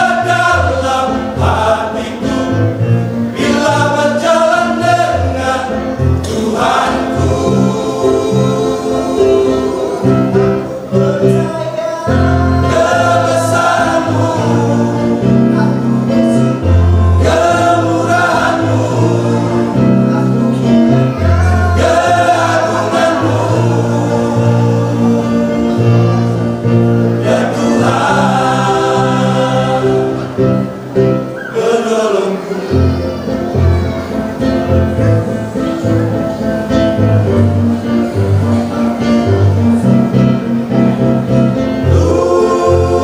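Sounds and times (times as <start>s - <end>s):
choir singing in harmony: 0.0s - 43.0s.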